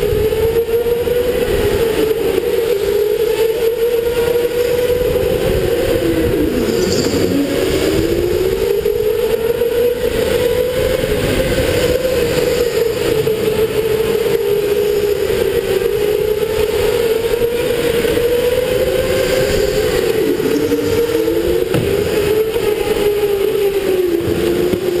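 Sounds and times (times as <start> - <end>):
rough steady rumble: 0.0 - 25.0
electric motor whining: 0.1 - 25.0.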